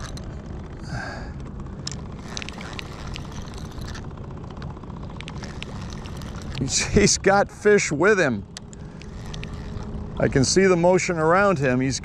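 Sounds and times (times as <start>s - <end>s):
fishing reel gears ticking: 0.0s - 1.0s, 1.7s - 12.0s.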